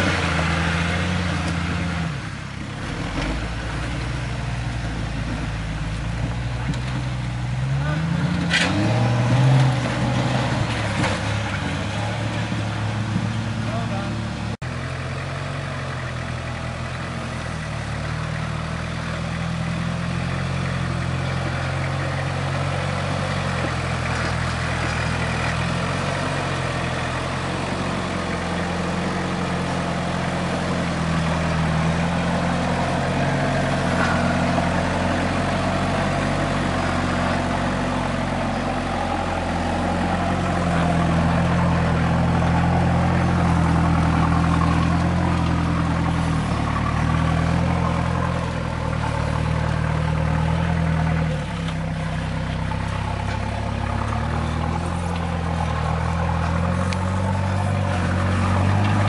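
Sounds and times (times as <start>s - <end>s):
off-road vehicle engine at low revs: 0.0s - 59.0s.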